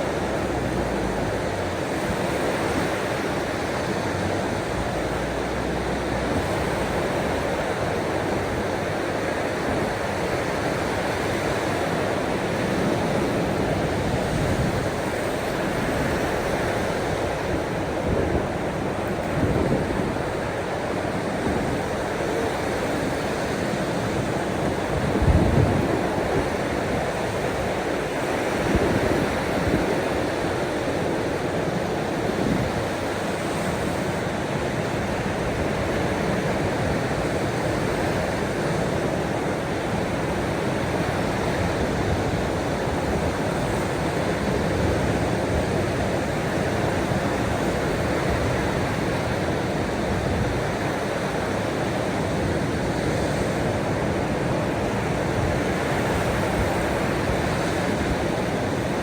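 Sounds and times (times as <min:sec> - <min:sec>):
ocean waves rushing: 0:00.0 - 0:59.0.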